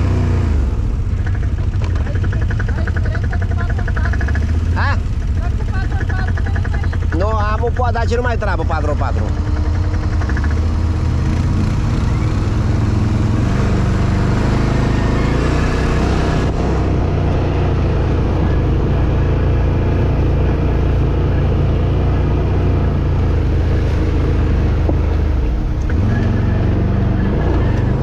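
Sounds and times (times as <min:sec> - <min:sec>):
road noise: 0:00.0 - 0:28.0
vehicle engine droning: 0:00.0 - 0:28.0.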